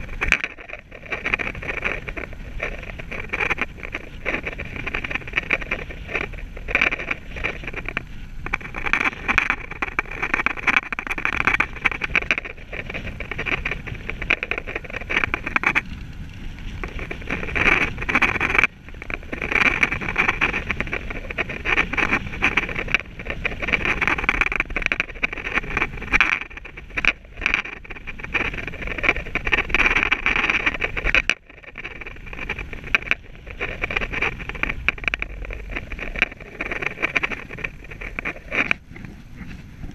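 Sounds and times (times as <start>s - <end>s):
bike tyres rolling on tarmac: 0.0s - 39.9s
wind on microphone: 0.0s - 39.9s.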